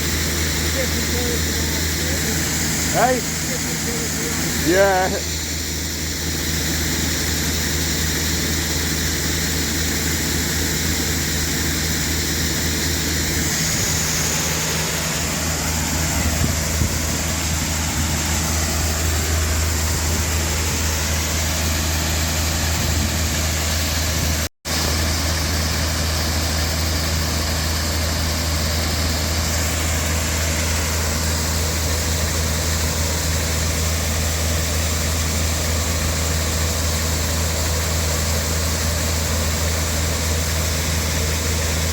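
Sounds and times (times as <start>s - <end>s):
combine harvester engine drone: 0.0s - 41.9s
threshing machinery whirr: 0.0s - 41.9s.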